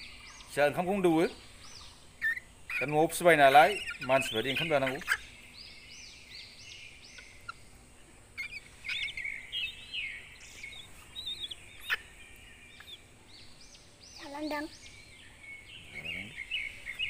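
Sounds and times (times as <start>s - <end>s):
bird chick chirping: 0.0s - 17.0s.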